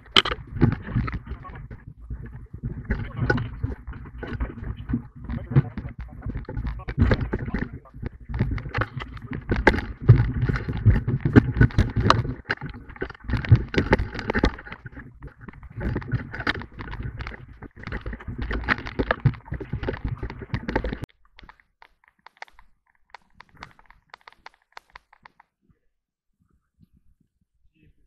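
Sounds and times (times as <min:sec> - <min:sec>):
paddles knocking against hull: 0:00.0 - 0:25.4.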